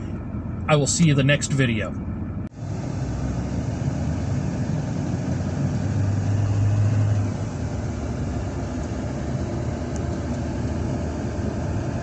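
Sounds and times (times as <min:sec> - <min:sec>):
engine and road drone: 0:00.0 - 0:12.0
low hum: 0:00.0 - 0:12.0.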